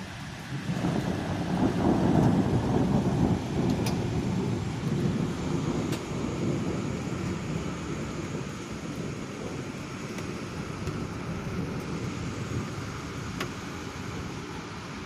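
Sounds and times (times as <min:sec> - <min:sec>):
rain hissing: 0:00.0 - 0:15.0
thunder rumbling: 0:00.0 - 0:15.0.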